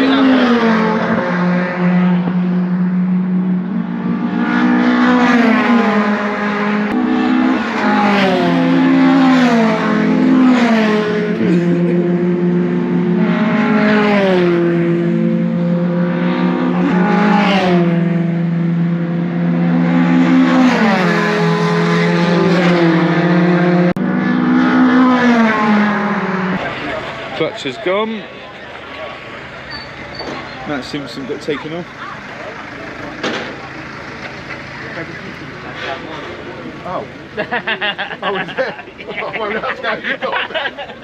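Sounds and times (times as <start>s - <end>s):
racing truck engines accelerating: 0.0s - 41.0s.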